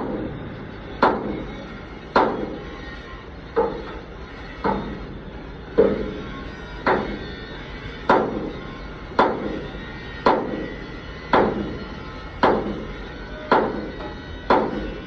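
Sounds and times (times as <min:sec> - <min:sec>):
hammer on sheet metal: 0:00.0 - 0:00.4, 0:01.0 - 0:02.8, 0:03.5 - 0:05.1, 0:05.8 - 0:07.3, 0:08.0 - 0:15.0.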